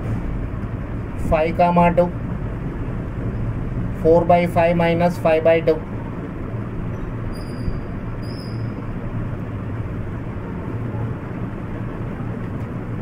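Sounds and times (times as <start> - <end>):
background rumble and hiss: 0.0 - 13.0
low hum: 0.0 - 13.0.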